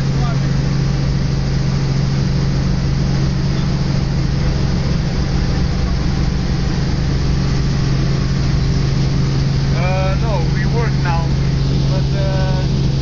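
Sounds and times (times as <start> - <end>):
helicopter engine and rotor noise: 0.0 - 13.0.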